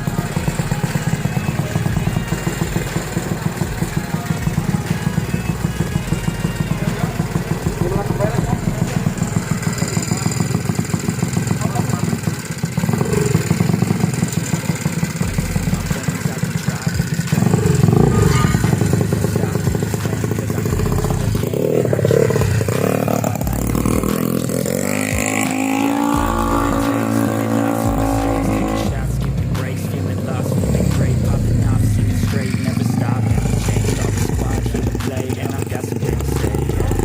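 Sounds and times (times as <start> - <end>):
scooter engine revving: 0.0 - 37.0.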